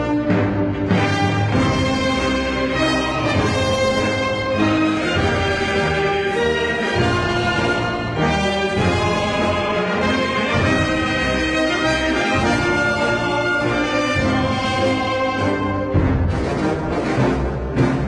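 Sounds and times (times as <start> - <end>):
brass holding long notes: 0.0 - 18.0
orchestral music: 0.0 - 18.0.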